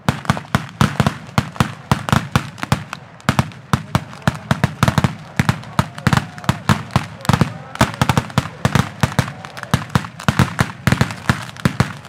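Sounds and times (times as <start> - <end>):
firecrackers banging rapidly: 0.0 - 12.0.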